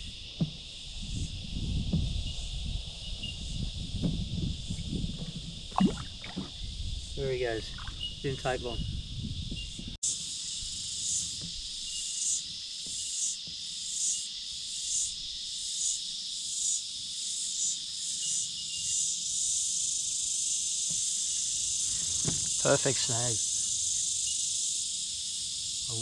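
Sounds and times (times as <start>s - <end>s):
cicadas shrilling: 0.0s - 26.0s.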